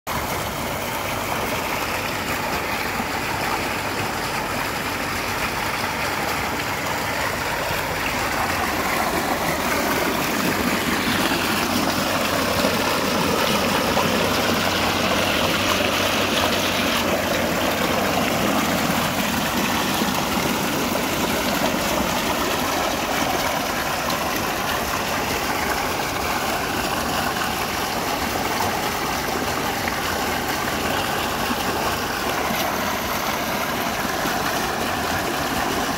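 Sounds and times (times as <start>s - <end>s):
pump humming: 0.1s - 35.9s
water gushing into tank: 0.1s - 35.9s.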